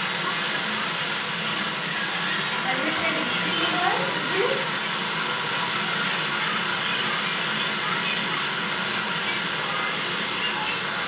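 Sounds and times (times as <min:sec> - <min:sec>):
faint voices: 0:00.0 - 0:11.0
fan rushing air: 0:00.0 - 0:11.0.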